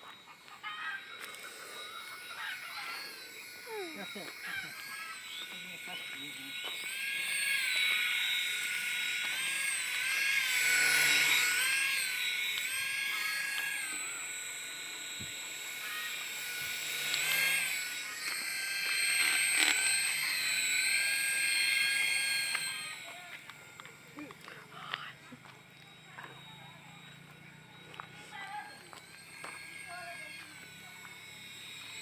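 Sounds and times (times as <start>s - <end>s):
toy helicopter rotor motor whining: 0.0s - 32.0s.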